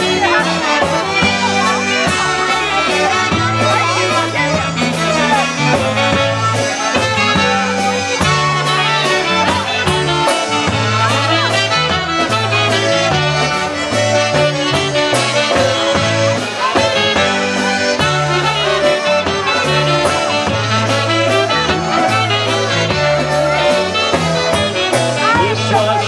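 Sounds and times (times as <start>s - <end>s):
drum kit beat: 0.0s - 26.0s
polka band playing a waltz: 0.0s - 26.0s
saxophone: 0.0s - 26.0s
trumpet: 0.0s - 26.0s.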